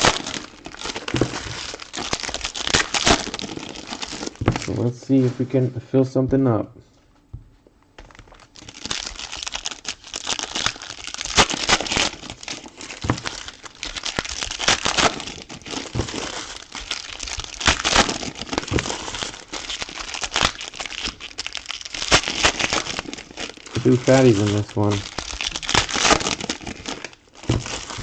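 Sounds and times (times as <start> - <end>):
plastic and foil wrapping crinkling: 0.0 - 5.7, 8.0 - 28.0.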